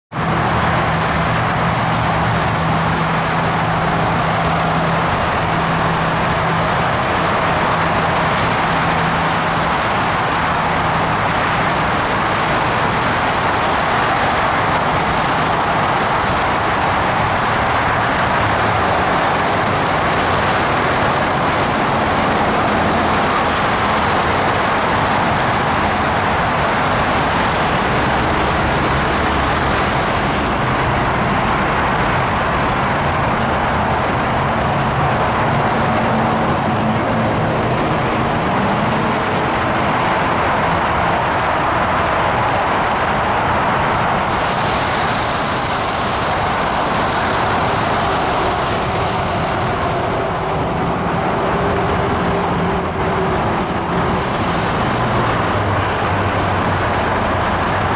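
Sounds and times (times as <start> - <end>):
road traffic noise: 0.1 - 57.9.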